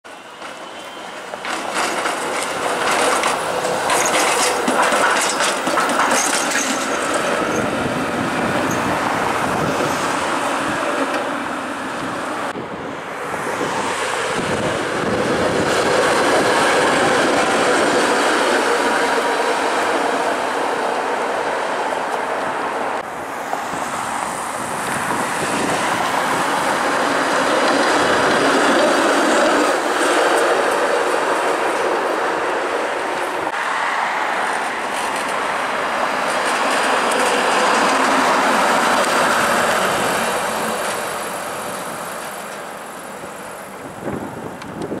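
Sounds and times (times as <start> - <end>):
electric streetcar running: 0.1 - 45.0
passing cars: 5.5 - 45.0.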